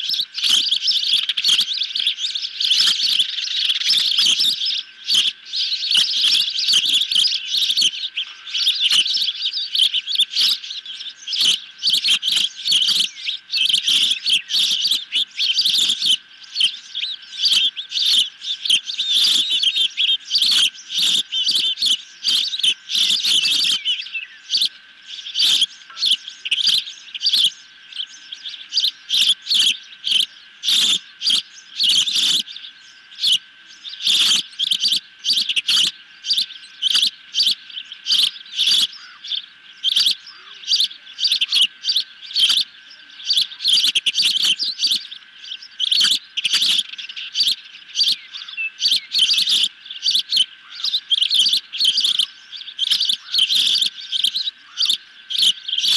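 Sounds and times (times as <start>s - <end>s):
young ospreys shrill chirps: 0.0s - 55.9s.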